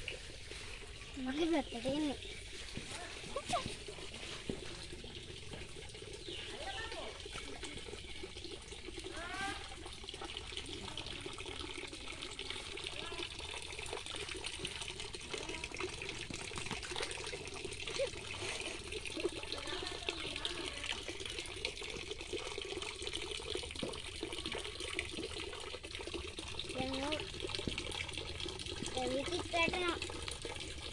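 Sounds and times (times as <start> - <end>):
water trickling and splashing: 0.0 - 30.9.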